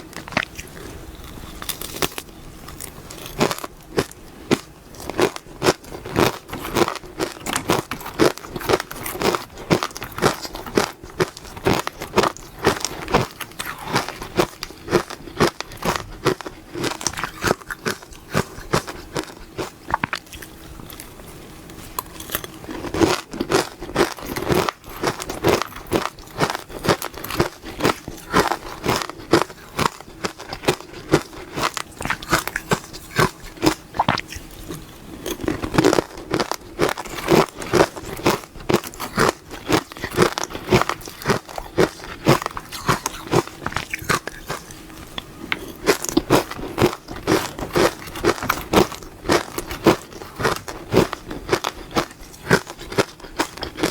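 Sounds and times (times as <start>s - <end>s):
crunchy ice chewing: 0.0s - 21.2s, 21.9s - 53.9s.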